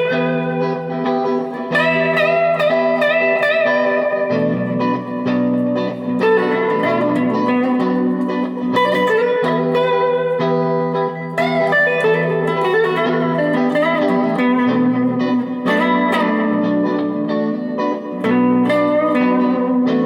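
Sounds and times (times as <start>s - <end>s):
electric guitar jamming: 0.0s - 20.0s.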